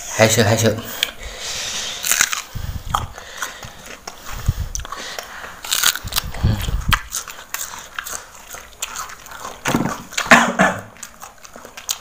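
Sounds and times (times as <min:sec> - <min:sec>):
crunchy bites and chewing: 0:01.9 - 0:12.0.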